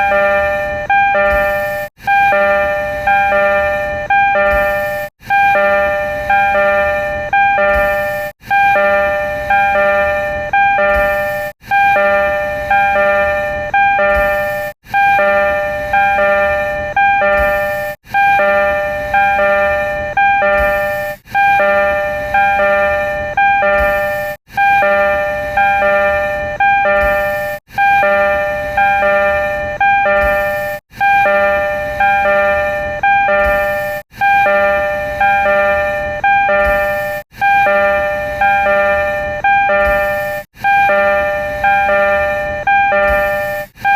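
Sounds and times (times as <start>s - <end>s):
subway door chime: 0.0s - 43.9s.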